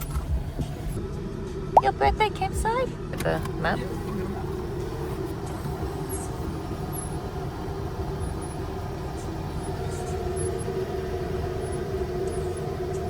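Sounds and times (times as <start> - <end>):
car interior engine and road noise: 0.0 - 13.0.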